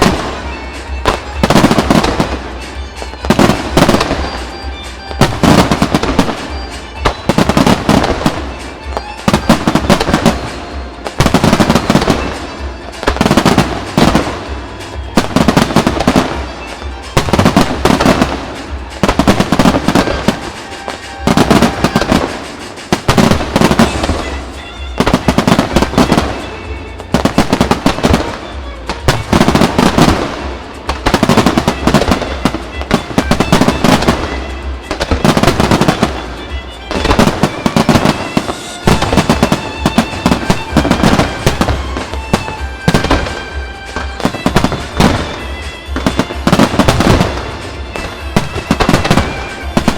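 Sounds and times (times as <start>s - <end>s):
fireworks bursting: 0.0s - 49.9s
music playing: 0.0s - 49.9s.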